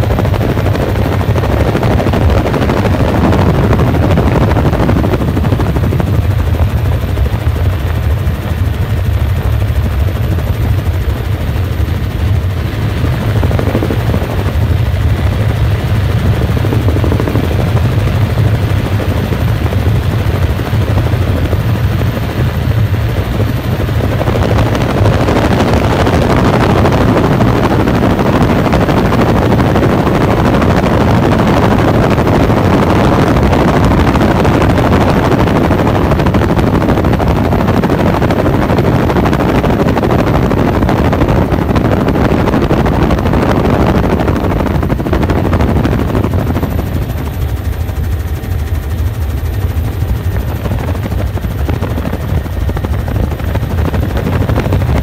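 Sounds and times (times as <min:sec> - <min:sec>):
helicopter rotor thrum: 0:00.0 - 0:55.0.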